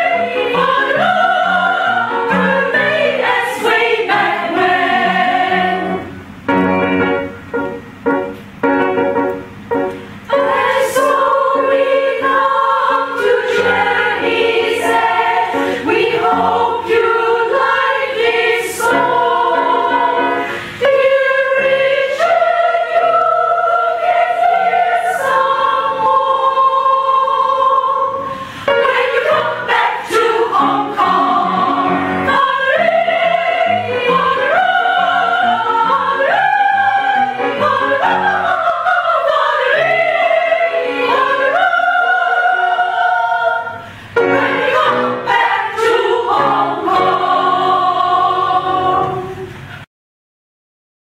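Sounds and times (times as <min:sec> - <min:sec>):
choir singing operatic style: 0:00.0 - 0:06.4, 0:10.3 - 0:49.9.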